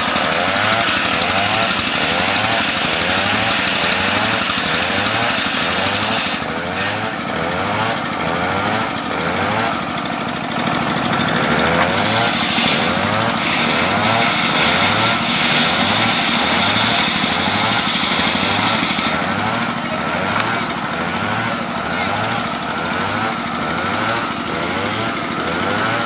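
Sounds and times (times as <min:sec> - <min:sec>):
engine-driven sawmill running: 0:00.0 - 0:26.0
saw cutting through trunk: 0:00.0 - 0:26.0.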